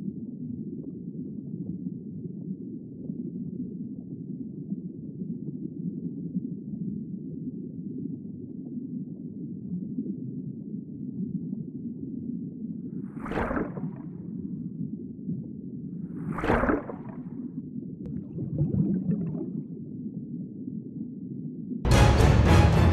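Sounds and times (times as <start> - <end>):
muffled underwater rumble: 0.0 - 21.8.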